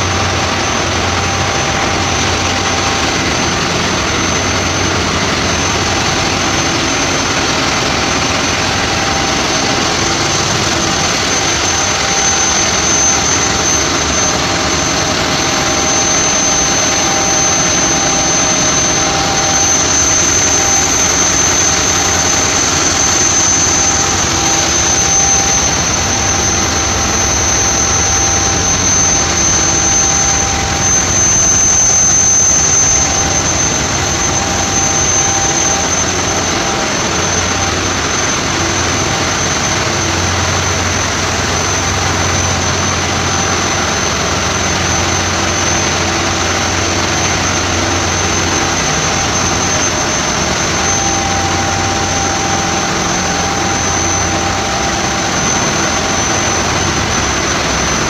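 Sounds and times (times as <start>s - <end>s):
constant high whine: 0.0s - 58.0s
diesel engine machinery din: 0.0s - 58.0s.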